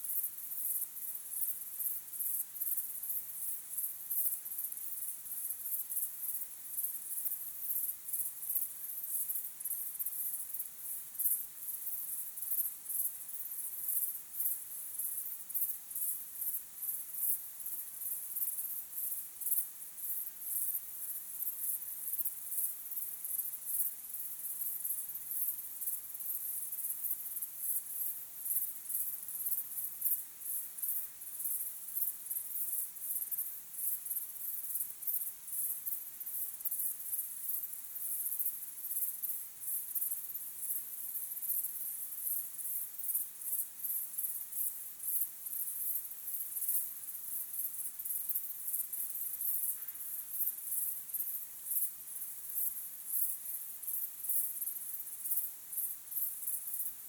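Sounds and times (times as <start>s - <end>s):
crickets chirping: 0.1s - 57.0s.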